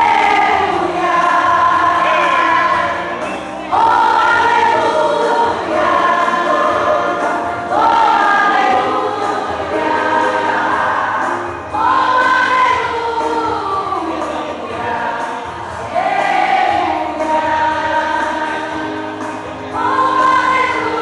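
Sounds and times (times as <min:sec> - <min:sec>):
choir singing gospel: 0:00.0 - 0:21.0.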